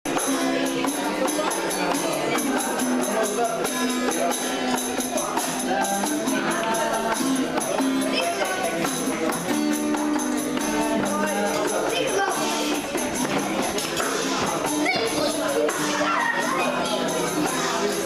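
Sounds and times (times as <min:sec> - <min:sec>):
crisp high percussion: 0:00.1 - 0:18.0.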